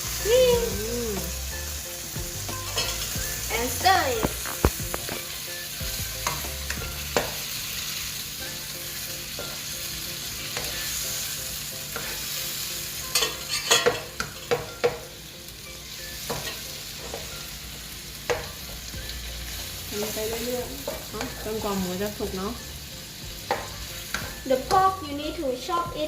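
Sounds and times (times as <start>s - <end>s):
sauce sizzling in a pan: 0.0s - 26.0s.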